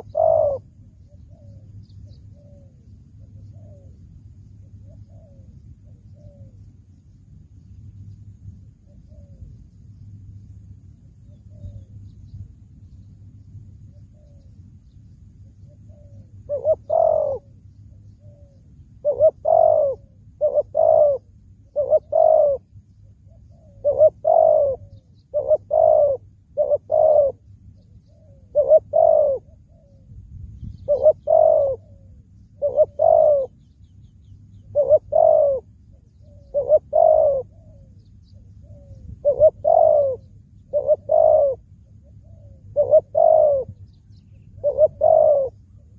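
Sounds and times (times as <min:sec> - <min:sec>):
dove cooing: 0:00.0 - 0:04.0, 0:04.6 - 0:06.7, 0:08.8 - 0:09.6, 0:11.2 - 0:12.0, 0:13.9 - 0:14.6, 0:15.6 - 0:33.8, 0:34.5 - 0:45.9.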